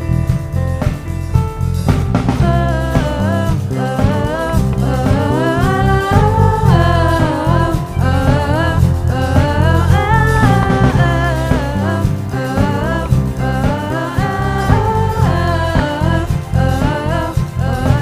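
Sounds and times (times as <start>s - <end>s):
live band playing: 0.0s - 18.0s
women singing into microphones: 2.4s - 18.0s.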